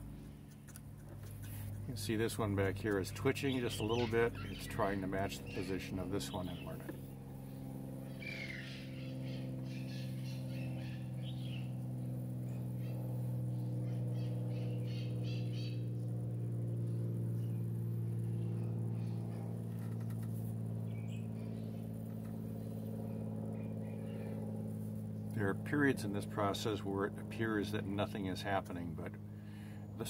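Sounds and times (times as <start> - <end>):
servos humming: 0.0 - 30.0.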